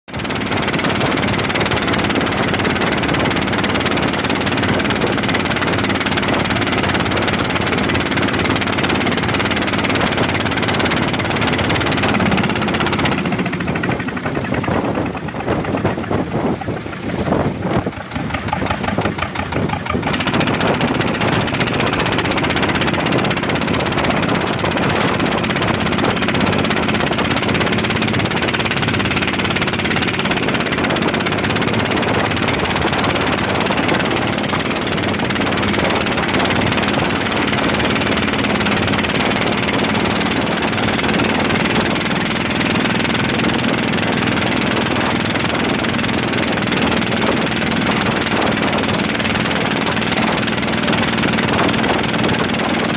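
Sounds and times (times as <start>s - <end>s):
boat engine running at high speed: 0.0s - 52.9s.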